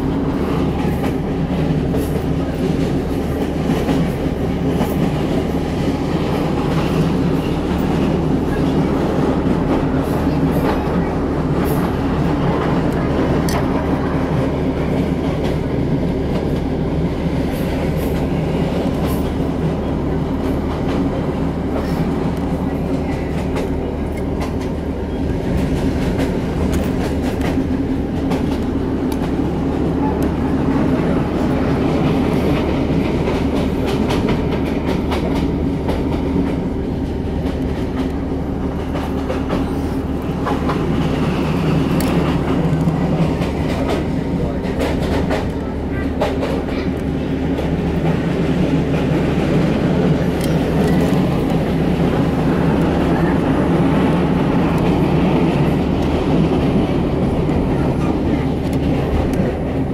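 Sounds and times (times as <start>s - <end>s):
train running heard from inside: 0.0s - 59.9s.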